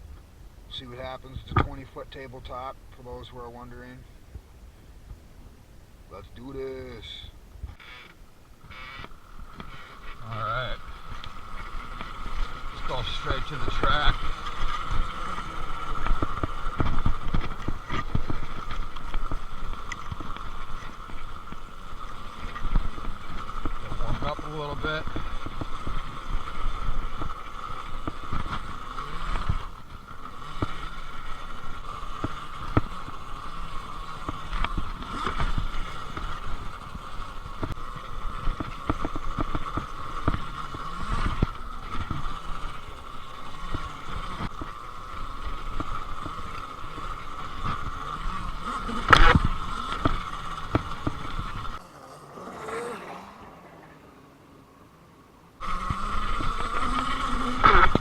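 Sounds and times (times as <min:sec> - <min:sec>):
wind: 0:00.0 - 0:58.0
electric motor whine: 0:06.3 - 0:58.0.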